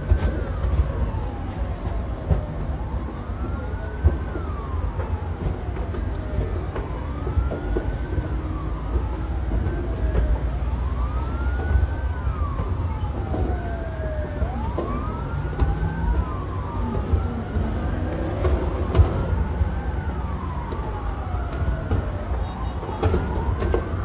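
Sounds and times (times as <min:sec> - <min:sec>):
emergency sirens wailing: 0:00.0 - 0:24.0.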